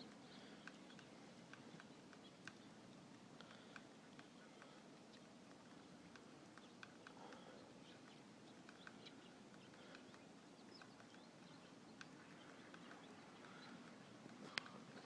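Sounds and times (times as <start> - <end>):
faint ticks and chirps: 0.0 - 15.0.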